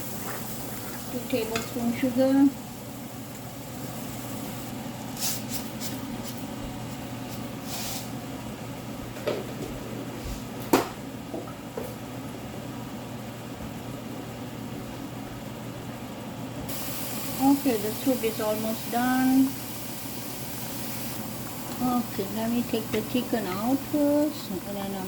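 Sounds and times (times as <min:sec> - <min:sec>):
low kitchen hum: 0:00.0 - 0:25.0.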